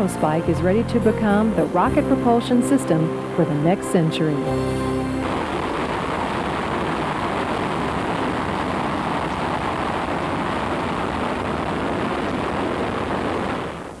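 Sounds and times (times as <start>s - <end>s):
rocket engine roaring: 0.0s - 14.0s.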